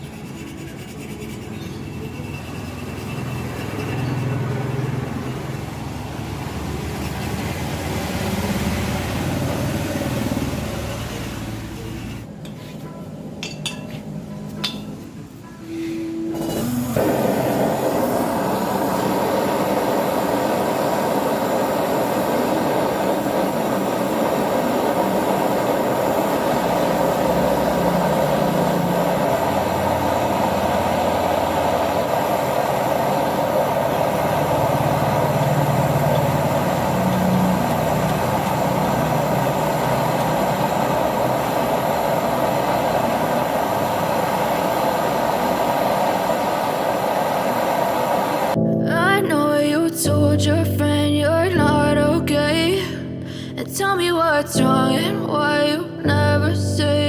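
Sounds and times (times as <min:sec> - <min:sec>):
refrigerator compressor humming: 0:00.0 - 0:48.6.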